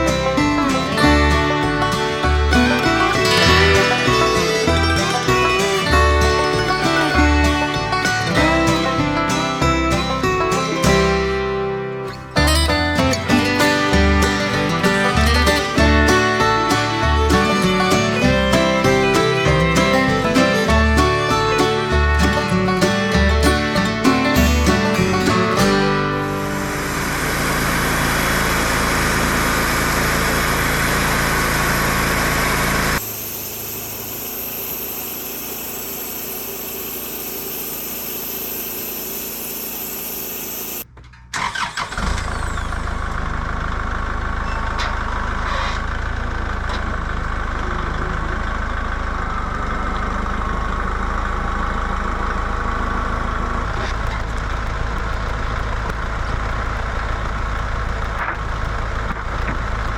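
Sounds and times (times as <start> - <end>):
bandsaw mill engine running: 0.0 - 40.9, 41.5 - 59.9.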